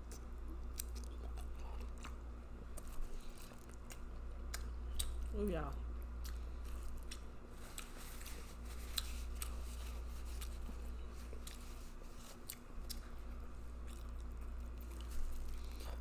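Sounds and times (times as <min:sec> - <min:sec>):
chewing and lip smacking: 0:00.0 - 0:05.3, 0:06.0 - 0:16.0
steady low hum: 0:00.0 - 0:16.0.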